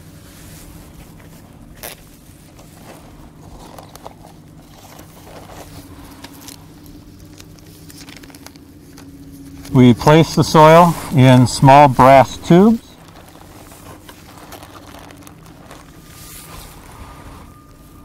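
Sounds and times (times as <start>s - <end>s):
gloved hands handling sample bag: 0.0s - 18.0s
low machine hum: 0.0s - 18.0s.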